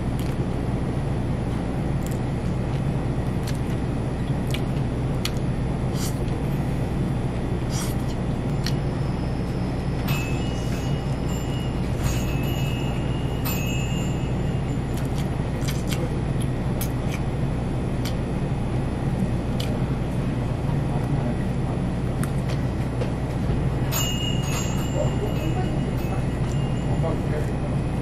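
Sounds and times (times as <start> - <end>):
low rumbling hum: 0.0 - 28.0.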